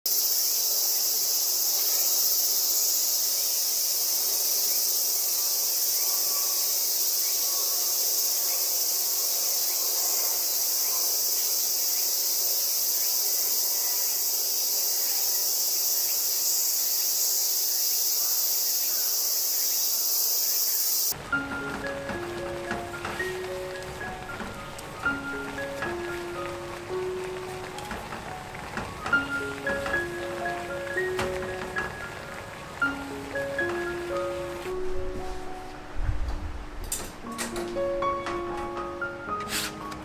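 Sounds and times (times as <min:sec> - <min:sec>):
insects chorus droning: 0:00.1 - 0:34.7.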